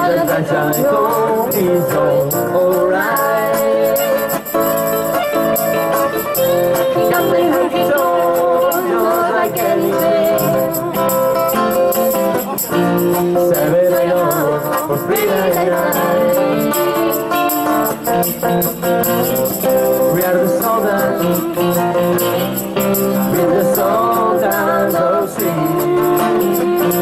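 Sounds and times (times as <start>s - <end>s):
electric and acoustic guitars: 0.0s - 27.0s
person singing: 0.0s - 27.0s.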